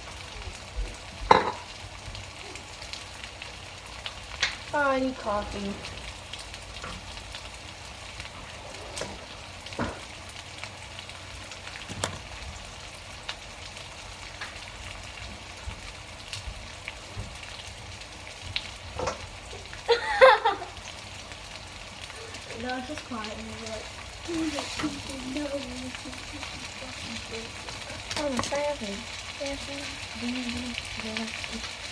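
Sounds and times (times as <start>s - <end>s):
chicken sizzling in a pan: 0.0s - 31.9s.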